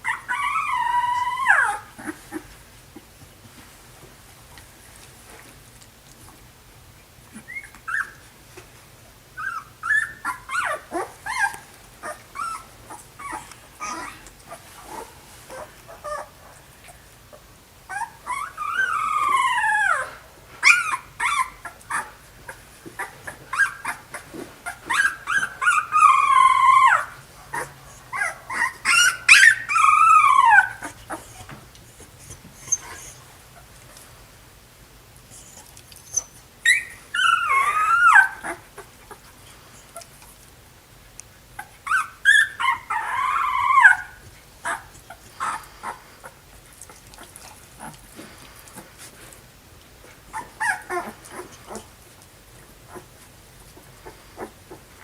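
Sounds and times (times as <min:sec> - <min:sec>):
puppies whimpering and whining: 0:00.0 - 0:02.6, 0:07.3 - 0:08.3, 0:09.4 - 0:33.7, 0:35.3 - 0:40.3, 0:41.5 - 0:49.2, 0:50.0 - 0:55.0.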